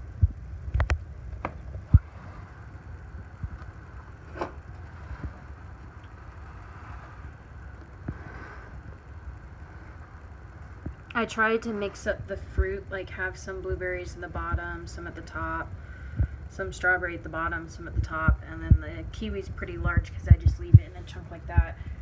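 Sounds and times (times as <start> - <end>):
low rumbling handling noise: 0.0 - 22.0.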